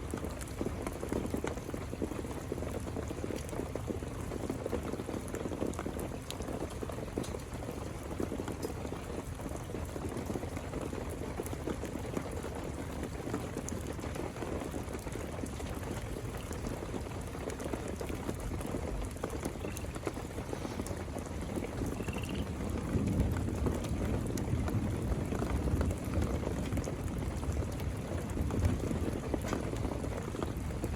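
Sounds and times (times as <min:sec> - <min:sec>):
heavy rain falling: 0:00.0 - 0:30.9
runoff water running: 0:00.0 - 0:30.9.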